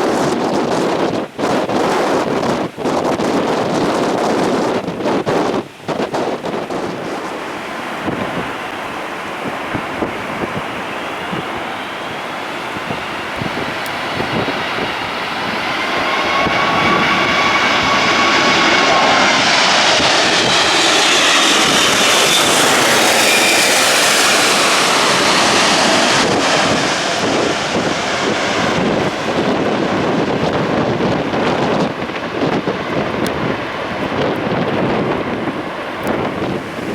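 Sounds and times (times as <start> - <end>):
jet airliner engines whining: 0.0 - 36.9
wind buffeting microphone: 0.0 - 36.9.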